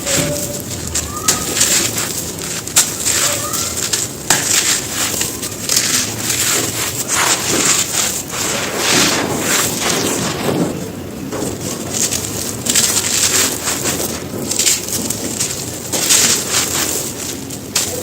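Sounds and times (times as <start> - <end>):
dry stone crunching and crumbling: 0.0 - 18.0.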